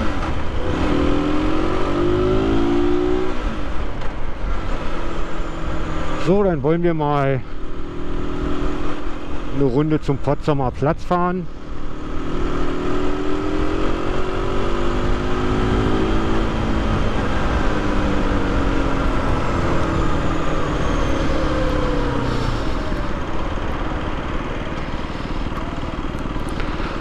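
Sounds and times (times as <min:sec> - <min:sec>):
motorcycle engine accelerating: 0:00.0 - 0:09.6, 0:11.6 - 0:27.0.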